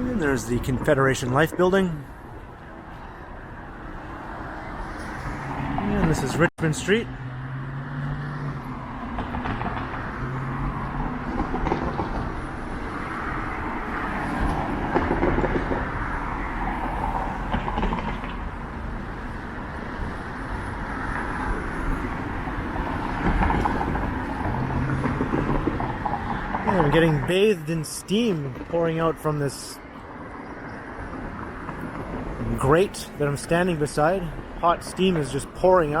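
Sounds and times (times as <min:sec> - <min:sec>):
street traffic: 0:00.0 - 0:36.0.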